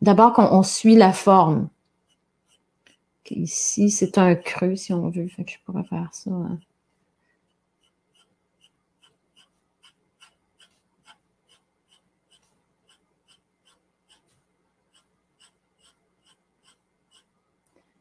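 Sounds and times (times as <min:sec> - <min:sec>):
pencil strokes on paper: 0:00.4 - 0:05.3, 0:07.4 - 0:17.4.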